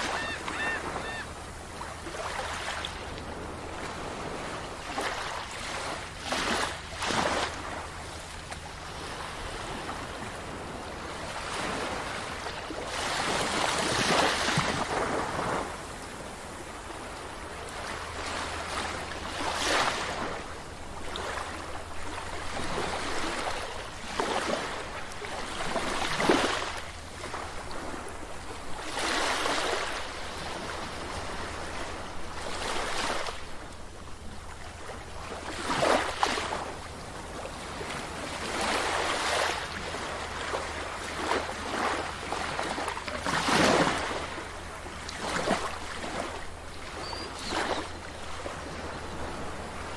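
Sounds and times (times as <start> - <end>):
sea waves breaking on beach: 0.0 - 49.9.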